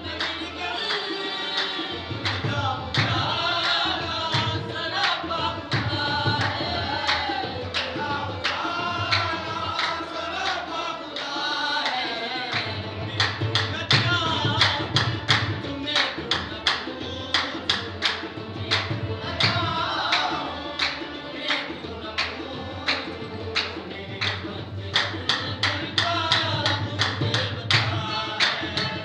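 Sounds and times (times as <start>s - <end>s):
harmonium: 0.0s - 29.0s
men singing devotional song: 0.0s - 29.0s
sharp percussive beat: 0.1s - 29.0s.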